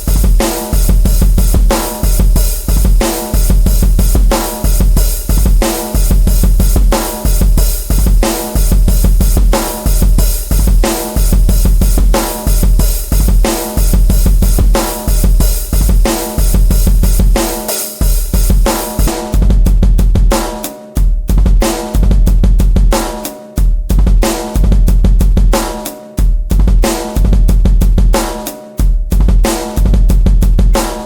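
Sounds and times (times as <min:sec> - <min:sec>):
drum kit playing a beat: 0:00.0 - 0:31.0.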